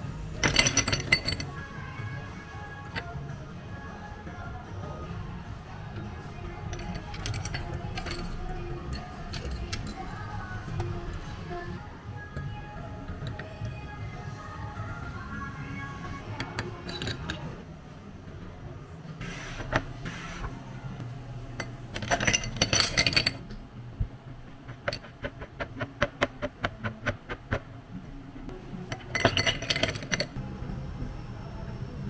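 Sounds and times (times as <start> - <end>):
hard items clinking and rattling: 0.0 - 3.2, 5.0 - 13.9, 16.2 - 17.7, 19.2 - 32.0
faint background music: 0.0 - 32.0.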